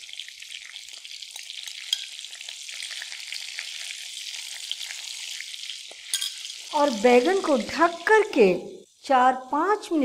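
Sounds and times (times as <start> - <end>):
eggplants sizzling in hot oil: 0.0 - 10.0.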